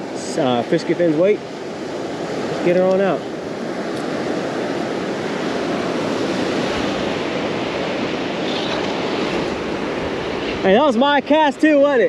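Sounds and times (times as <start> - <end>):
surf breaking on beach: 0.0 - 12.0
wind on microphone: 0.0 - 12.0.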